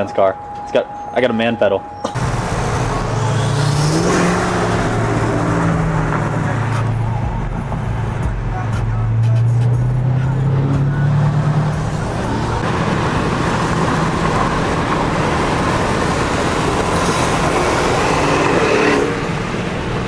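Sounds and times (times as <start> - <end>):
road and wind noise: 0.0 - 20.0
car engine accelerating: 2.0 - 20.0.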